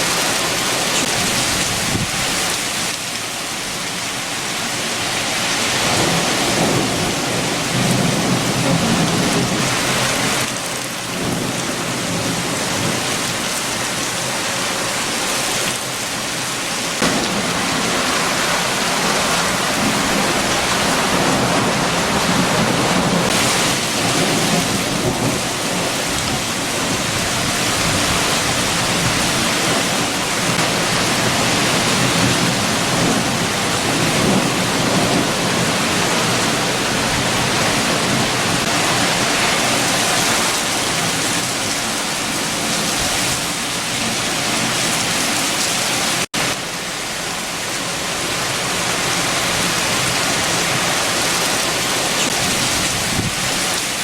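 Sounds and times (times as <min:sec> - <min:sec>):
heavy rain: 0:00.0 - 0:54.0
strong wind: 0:00.0 - 0:54.0.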